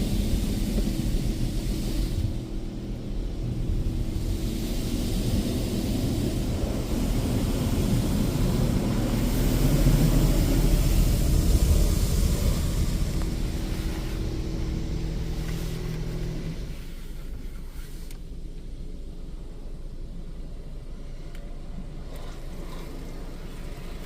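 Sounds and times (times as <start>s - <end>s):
high-pressure water spraying on car: 0.0s - 18.1s, 21.8s - 24.0s
car wash machine low hum: 0.0s - 24.0s.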